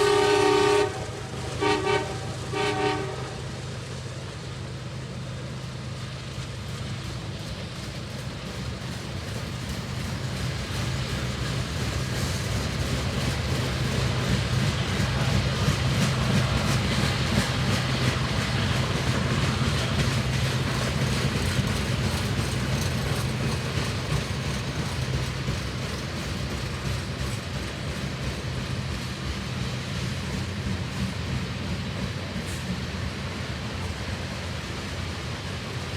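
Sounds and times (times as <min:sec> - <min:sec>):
freight train wheels clattering: 0:00.0 - 0:35.9.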